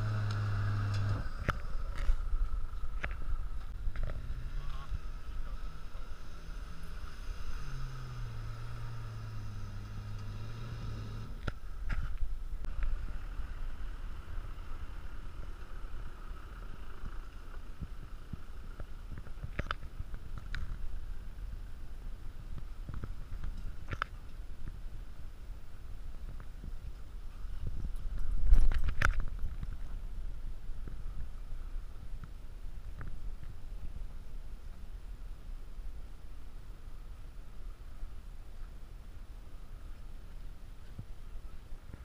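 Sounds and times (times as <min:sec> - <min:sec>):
off-road car engines at low speed: 0:00.0 - 0:42.0
wind rumble on microphone: 0:00.0 - 0:42.0.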